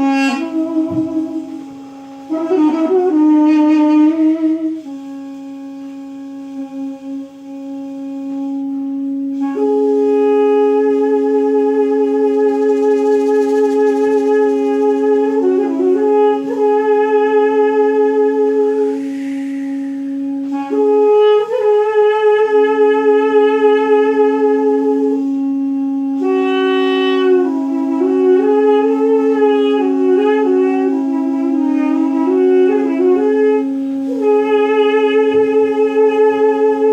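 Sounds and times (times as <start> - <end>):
double-reed woodwind melody: 0.0 - 36.9
held drone note: 0.0 - 36.9.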